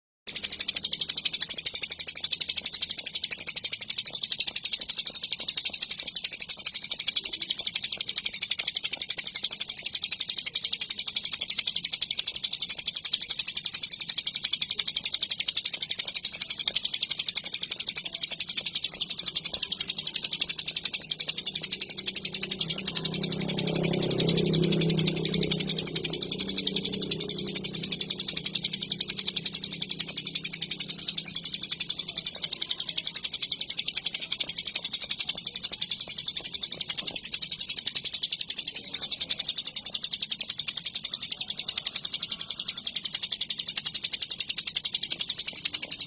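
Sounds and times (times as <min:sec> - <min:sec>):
songbird rapid high trill: 0:00.3 - 0:46.0.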